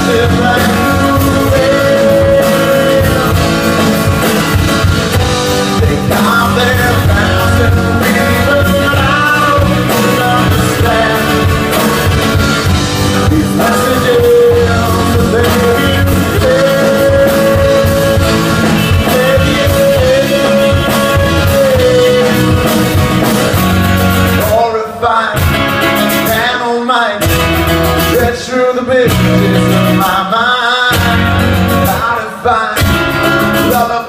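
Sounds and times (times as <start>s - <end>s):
rock song with singing: 0.0s - 34.0s.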